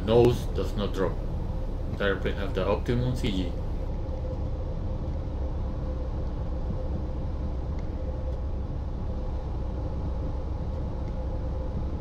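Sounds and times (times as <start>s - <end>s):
aircraft engine droning: 0.0s - 12.0s
faint steady hum: 0.0s - 12.0s.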